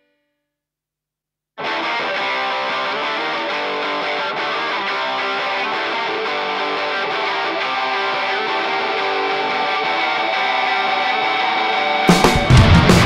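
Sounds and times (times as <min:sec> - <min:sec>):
distorted electric guitar chords: 0:01.6 - 0:13.0.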